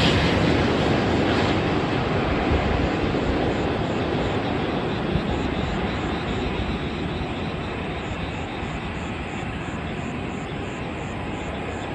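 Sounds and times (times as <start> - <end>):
jet engine roar: 0.0 - 11.9.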